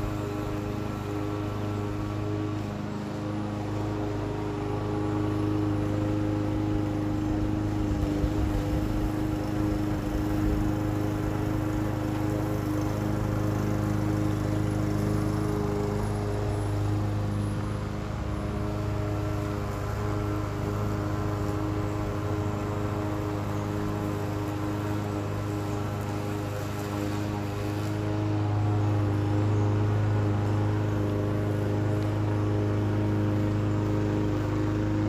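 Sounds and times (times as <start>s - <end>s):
lawn mower engine running: 0.0s - 35.0s.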